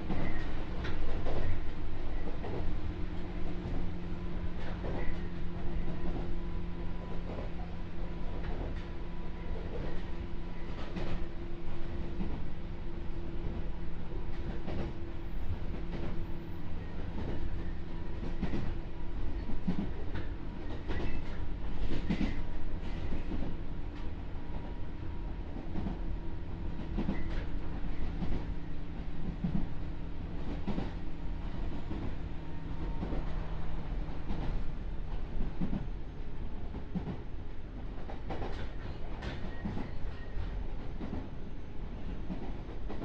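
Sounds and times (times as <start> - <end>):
train running gear hum: 0.0 - 43.0.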